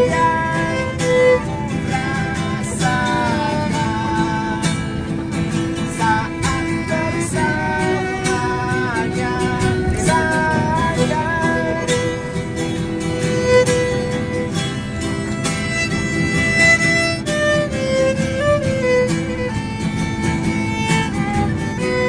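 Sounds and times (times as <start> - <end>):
strummed accompaniment: 0.0 - 22.0
violin sliding melody: 0.0 - 22.0.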